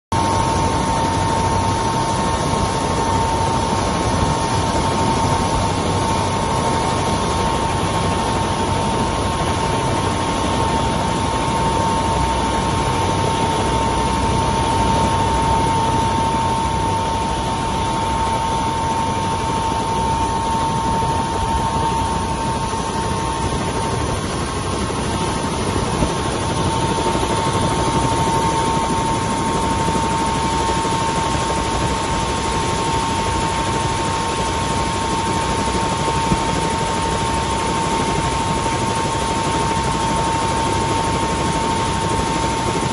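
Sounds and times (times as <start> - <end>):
helicopter turbine idling: 0.1 - 42.9.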